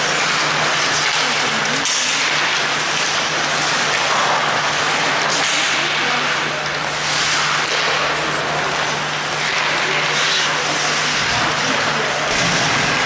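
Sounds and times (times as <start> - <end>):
constant low hum: 0.0 - 13.0
ice rink crowd din: 0.0 - 13.0.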